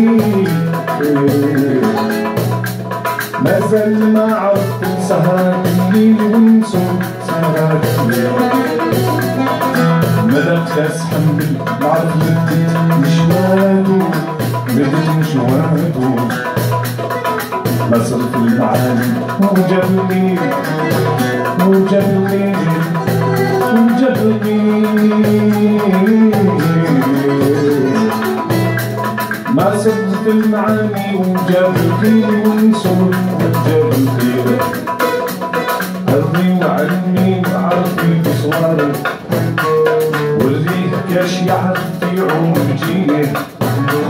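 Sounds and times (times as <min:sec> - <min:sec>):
acoustic guitar: 0:00.0 - 0:44.0
hand percussion: 0:00.0 - 0:44.0
plucked mandole melody: 0:00.0 - 0:44.0.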